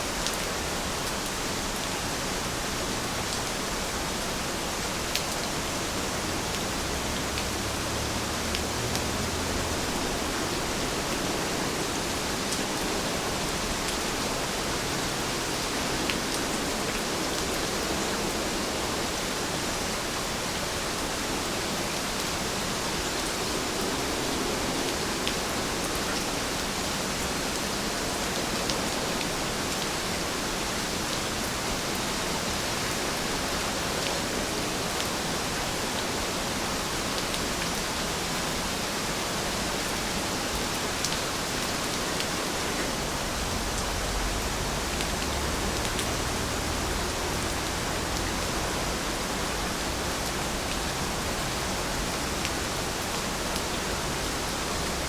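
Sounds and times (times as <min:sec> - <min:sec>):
heavy rain falling: 0:00.0 - 0:55.0
rain drops ticking: 0:00.1 - 0:55.0.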